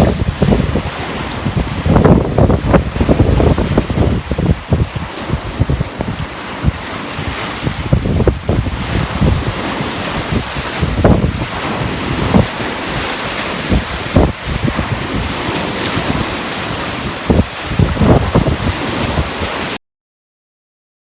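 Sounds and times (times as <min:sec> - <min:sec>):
ocean waves washing on shore: 0:00.0 - 0:19.8
wind buffeting microphone: 0:00.0 - 0:19.8.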